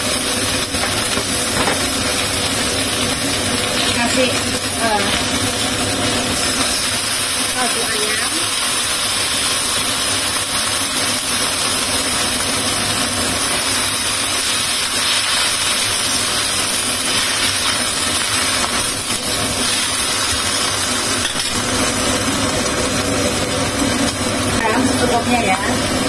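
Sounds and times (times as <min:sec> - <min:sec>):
cabbage sizzling in a wok: 0:00.0 - 0:26.0.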